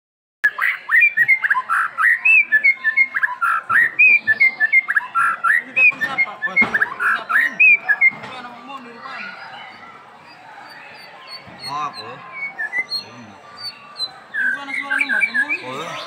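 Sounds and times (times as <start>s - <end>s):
bird chirping and whistling: 0.4s - 8.3s, 9.2s - 16.0s.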